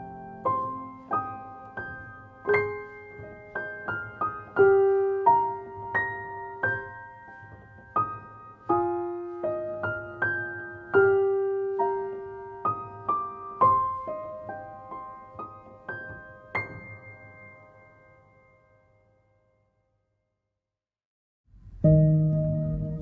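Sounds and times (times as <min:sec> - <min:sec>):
slow solo piano: 0:00.0 - 0:19.4, 0:21.5 - 0:23.0.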